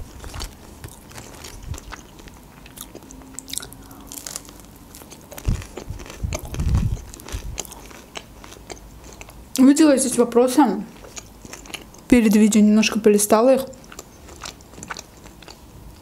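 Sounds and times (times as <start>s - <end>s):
biting and chewing crunchy food: 0.0s - 9.7s, 10.9s - 12.2s, 13.8s - 16.0s.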